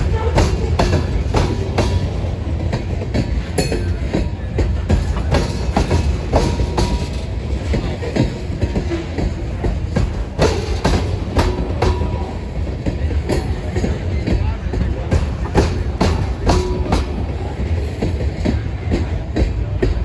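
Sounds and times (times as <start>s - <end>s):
train rumbling past: 0.0s - 20.0s
wheels clanking over rails: 0.0s - 20.0s.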